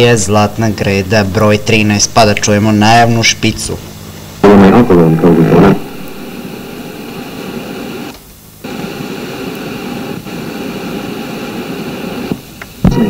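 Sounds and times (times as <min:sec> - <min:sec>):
tape hiss and static: 0:00.0 - 0:13.0.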